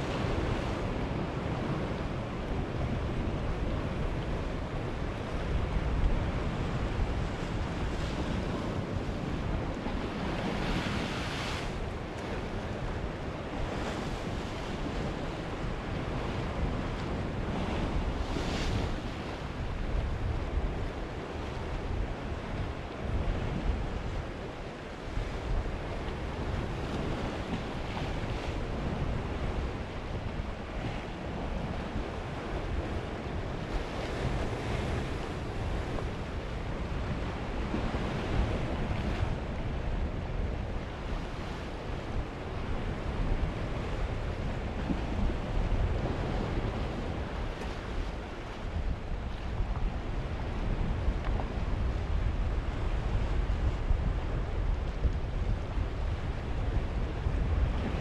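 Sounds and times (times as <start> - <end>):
waves breaking on rocky shore: 0.0 - 58.0
wind buffeting microphone: 0.0 - 58.0.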